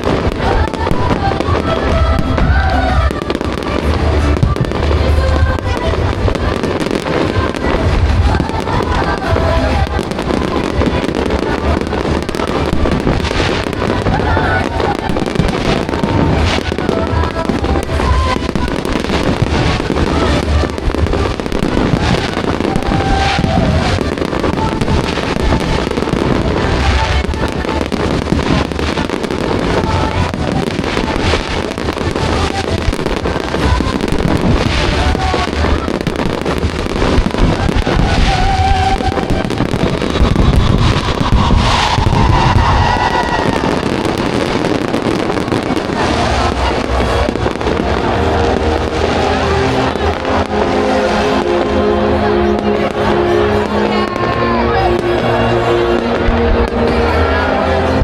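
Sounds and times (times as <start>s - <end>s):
fireworks bangs and crackling: 0.0s - 58.0s
music playing: 0.0s - 58.0s.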